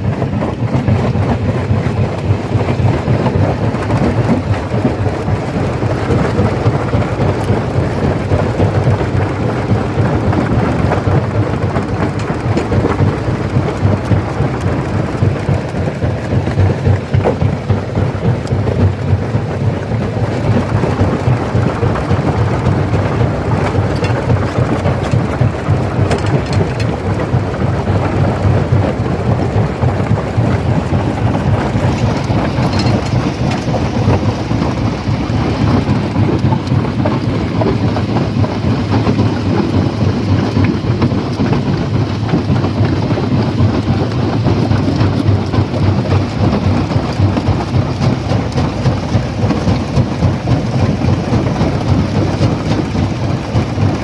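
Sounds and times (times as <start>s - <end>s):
stone crusher rumbling: 0.0s - 54.0s.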